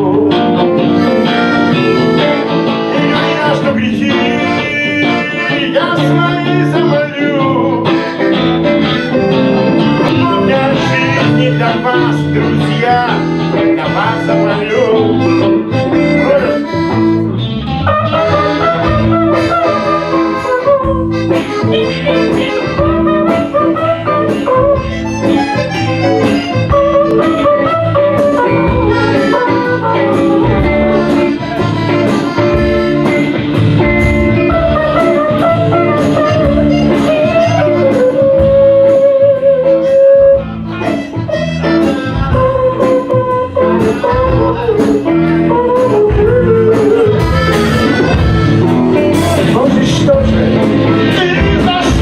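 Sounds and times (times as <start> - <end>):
guitar: 0.0 - 52.0
live band playing: 0.0 - 52.0.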